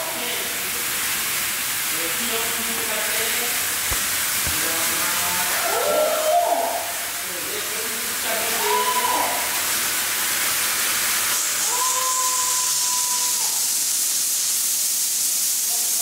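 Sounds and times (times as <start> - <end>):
fire extinguishers hissing spray: 0.1 - 16.0.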